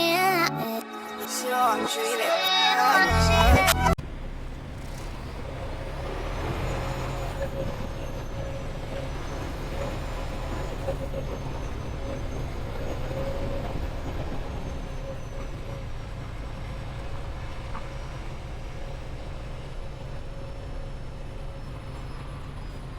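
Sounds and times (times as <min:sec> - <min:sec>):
truck engine and road rumble: 0:03.1 - 0:22.9.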